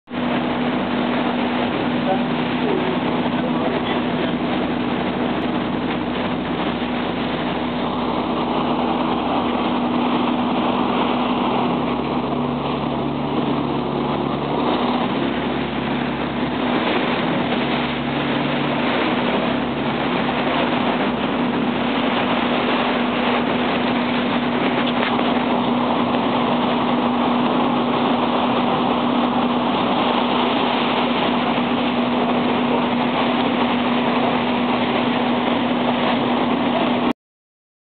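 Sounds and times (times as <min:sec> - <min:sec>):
water rushing: 0:00.0 - 0:37.1
wind: 0:00.0 - 0:37.1
ferry engine humming: 0:00.1 - 0:37.1.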